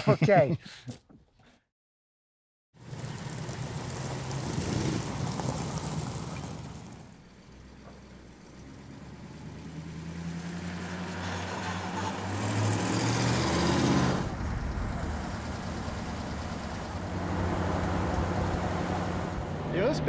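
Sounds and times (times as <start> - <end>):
car engine driving past: 2.8 - 20.0.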